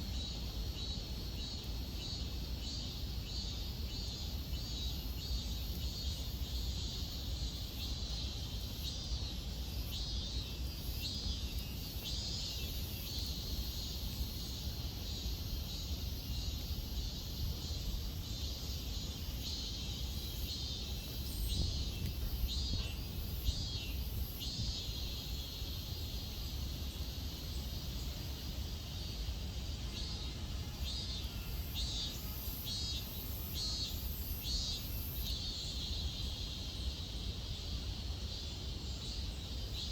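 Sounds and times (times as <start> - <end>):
cicada buzzing: 0.1 - 39.9.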